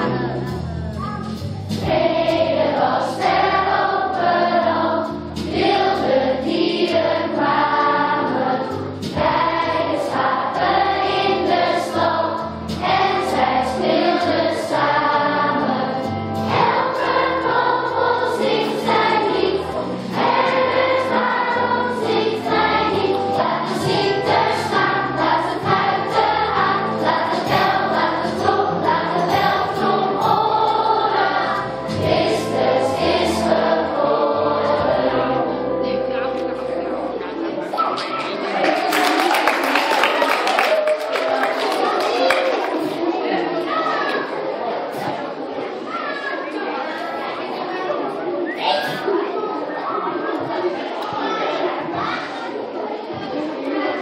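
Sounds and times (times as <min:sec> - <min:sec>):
children's choir singing: 0:00.0 - 0:54.0.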